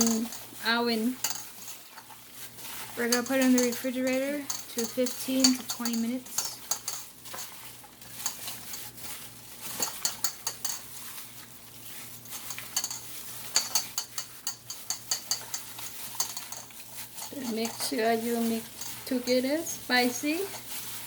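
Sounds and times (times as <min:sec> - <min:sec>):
wings squelching in marinade: 0:00.0 - 0:21.0.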